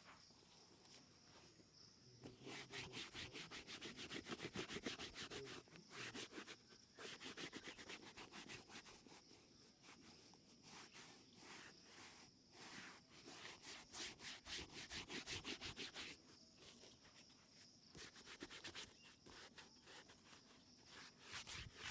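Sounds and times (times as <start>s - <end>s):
rubbing strokes on shoe: 2.2s - 21.9s.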